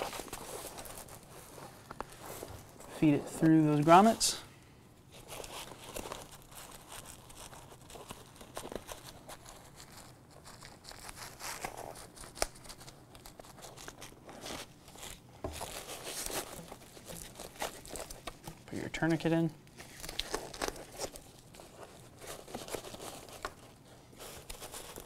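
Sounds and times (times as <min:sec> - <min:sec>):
fabric rustling and crinkling: 0:00.0 - 0:04.4, 0:05.0 - 0:25.0.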